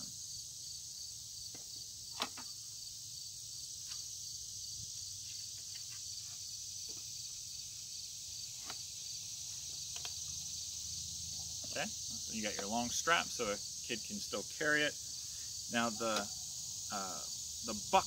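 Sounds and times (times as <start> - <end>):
high-pitched insect chorus: 0.0 - 18.0
pulsing insect chirp: 0.0 - 18.0.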